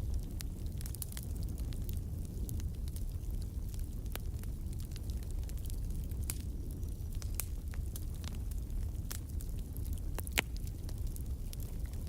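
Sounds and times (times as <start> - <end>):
low fire rumble: 0.0 - 12.0
wood fire crackling: 0.0 - 12.0.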